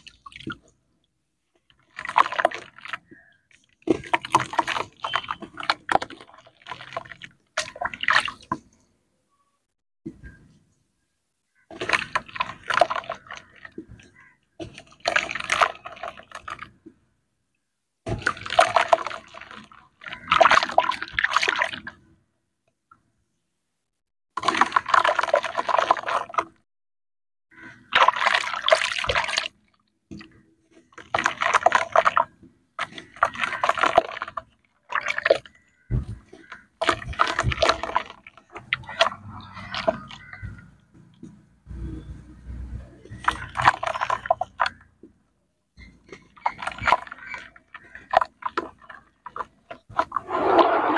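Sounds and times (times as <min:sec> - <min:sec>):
muddy water sloshing in a tub: 0:00.0 - 0:08.9, 0:11.6 - 0:17.2, 0:18.0 - 0:22.2, 0:24.4 - 0:26.6, 0:27.5 - 0:50.9.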